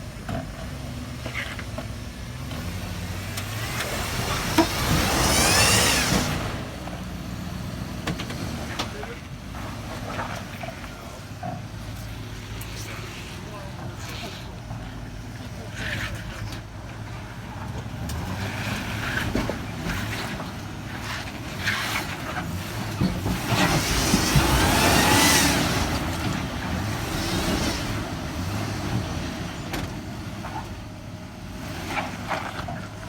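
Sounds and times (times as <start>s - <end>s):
engine revving under load: 0.0s - 33.0s.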